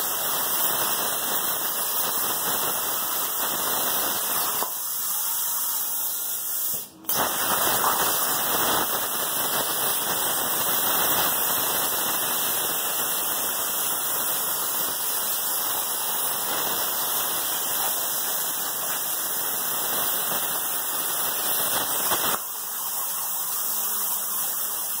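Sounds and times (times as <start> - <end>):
plasma cutter hissing: 0.0 - 25.0.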